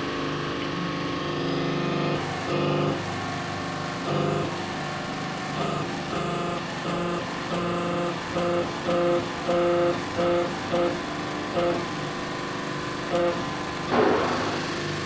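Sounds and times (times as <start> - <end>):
hydraulic press humming: 1.4 - 12.3, 12.9 - 15.0.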